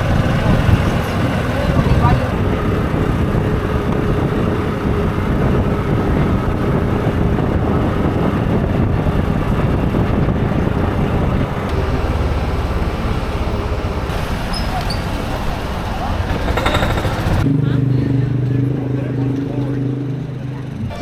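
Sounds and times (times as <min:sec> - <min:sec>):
road rumble: 0:00.0 - 0:21.0
vehicle engine hum: 0:00.0 - 0:21.0.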